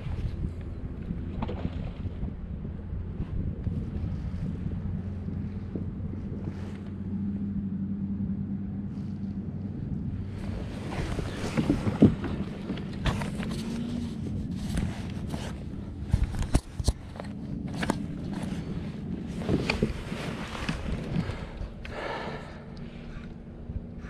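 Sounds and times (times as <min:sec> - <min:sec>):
wind and water wash: 0:00.0 - 0:24.0.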